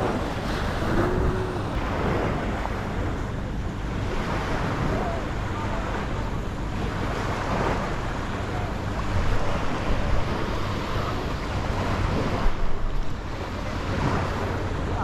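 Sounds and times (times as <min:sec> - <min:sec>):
waves washing onto beach: 0:00.0 - 0:15.0
wind rumbling on microphone: 0:00.0 - 0:15.0.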